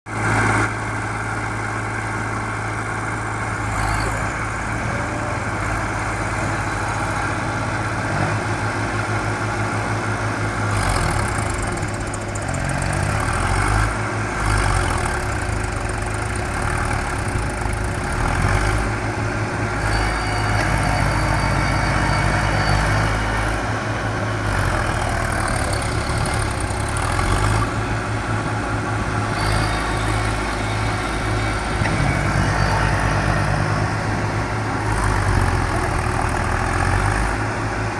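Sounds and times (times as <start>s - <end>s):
tractor engine under load: 0.1s - 37.9s.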